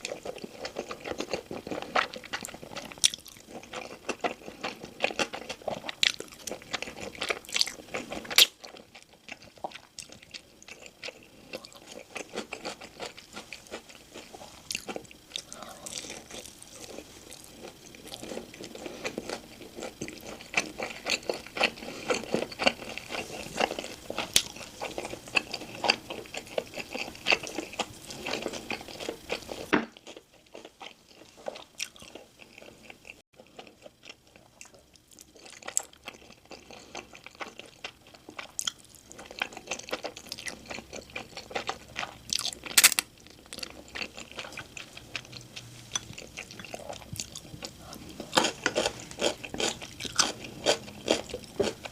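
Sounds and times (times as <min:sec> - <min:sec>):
food crunching and chewing: 0:00.0 - 0:51.9.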